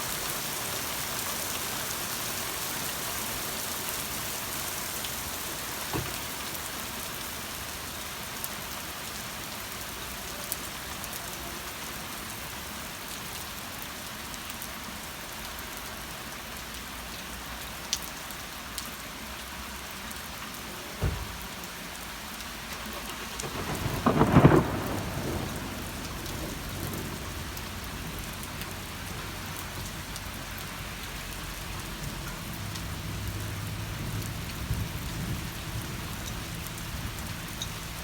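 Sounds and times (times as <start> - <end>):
steady rain hiss: 0.0 - 38.0.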